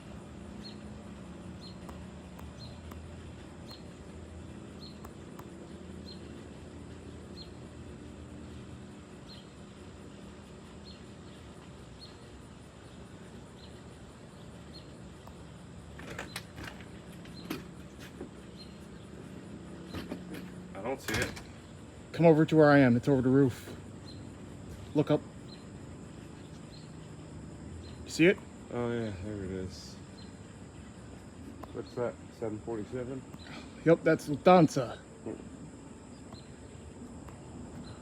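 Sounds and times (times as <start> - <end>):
small bird chirping: 0.0 - 20.8, 21.5 - 35.0, 35.9 - 38.0
steady low hum: 0.0 - 38.0.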